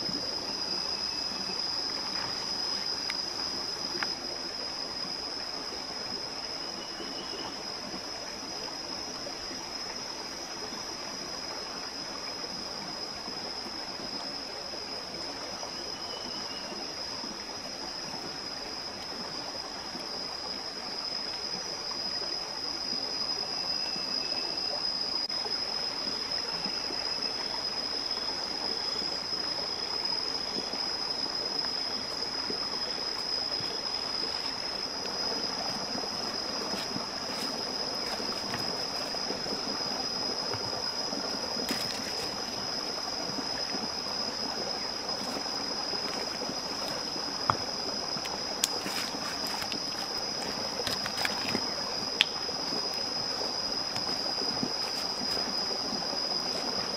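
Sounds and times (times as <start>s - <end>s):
high insect drone: 0.0s - 56.9s
rushing stream: 0.0s - 56.9s.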